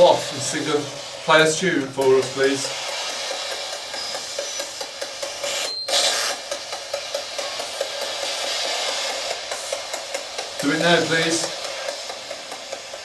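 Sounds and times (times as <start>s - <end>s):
radio static bursts: 0.0s - 10.0s, 10.6s - 12.1s.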